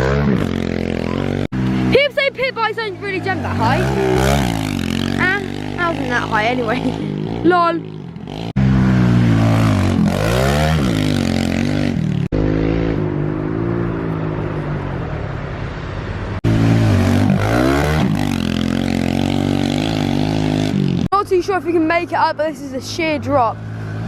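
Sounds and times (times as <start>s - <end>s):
motorbike engine revving: 0.0s - 14.9s, 16.4s - 24.0s.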